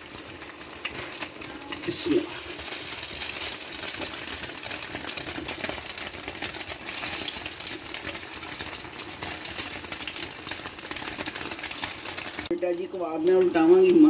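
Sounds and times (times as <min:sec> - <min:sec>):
frying sizzle with crackling oil: 0:00.0 - 0:14.0.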